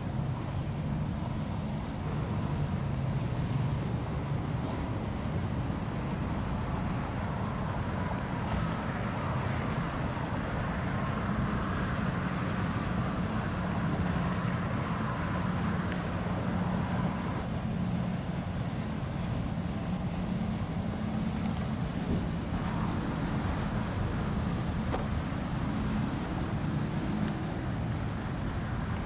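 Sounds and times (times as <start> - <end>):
boat engines droning: 0.0 - 29.0
wind buffeting microphone: 0.0 - 29.0.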